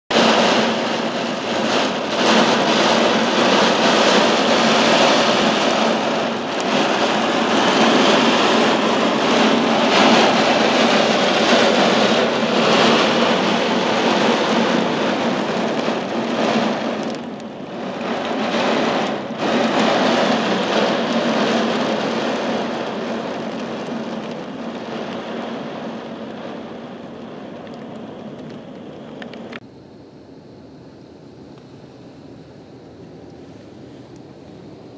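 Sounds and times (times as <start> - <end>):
torrential rain pouring: 0.1 - 29.6.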